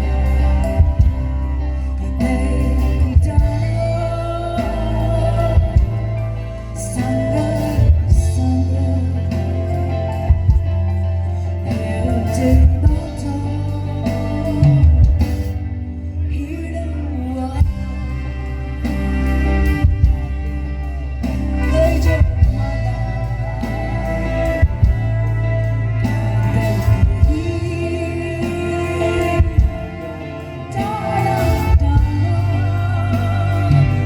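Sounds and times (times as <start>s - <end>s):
bass line: 0.0s - 34.0s
drums: 0.0s - 34.0s
electric guitar: 0.0s - 34.0s
person singing: 0.0s - 34.0s.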